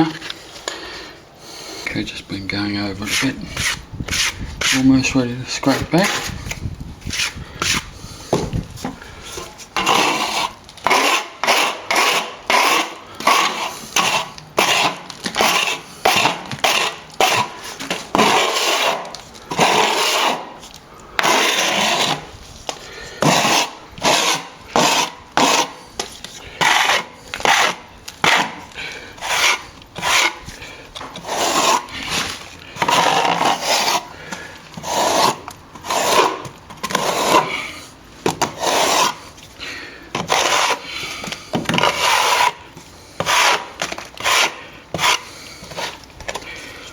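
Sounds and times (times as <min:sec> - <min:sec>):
hand tool scraping plaster: 0:02.8 - 0:46.9.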